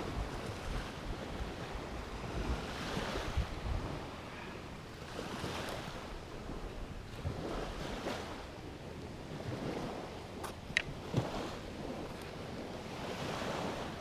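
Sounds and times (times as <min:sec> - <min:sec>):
sea surf washing ashore: 0:00.0 - 0:14.0
wind buffeting microphone: 0:00.0 - 0:14.0.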